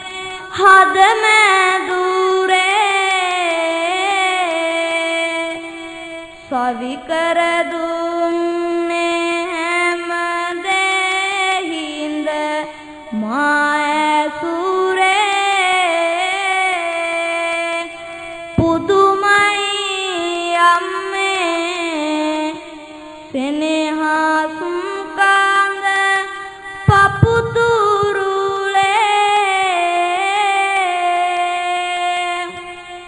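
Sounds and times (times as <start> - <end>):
boy chanting into a microphone: 0.0 - 33.0.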